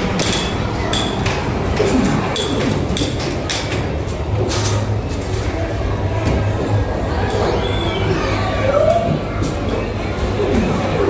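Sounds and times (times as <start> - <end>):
hum of arcade machines: 0.0 - 11.0.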